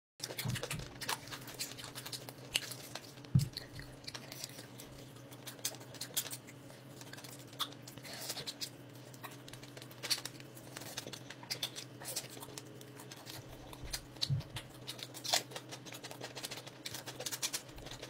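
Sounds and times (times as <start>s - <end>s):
crunchy chewing: 0.2s - 18.0s.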